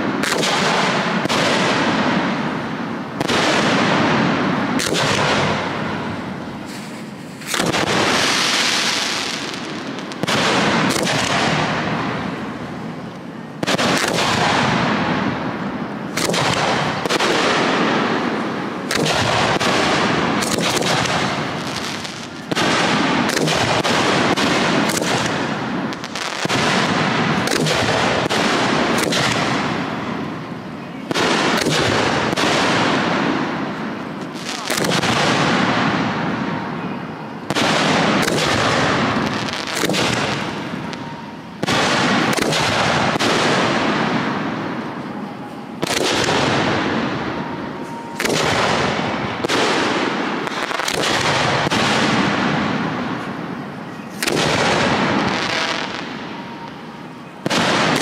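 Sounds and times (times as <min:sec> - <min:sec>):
firework shells bursting: 0:00.0 - 0:58.0
rolling echo: 0:00.0 - 0:58.0.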